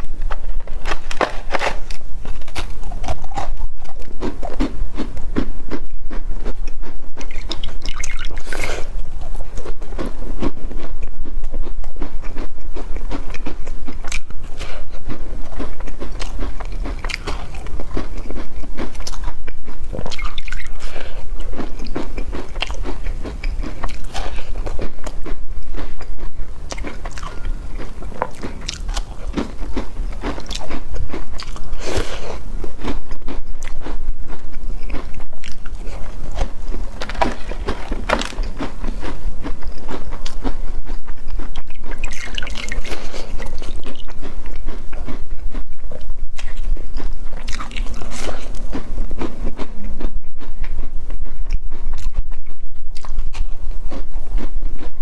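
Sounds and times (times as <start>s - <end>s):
crunchy biscuit bites: 0.0s - 50.8s
soft chewing: 0.0s - 55.0s.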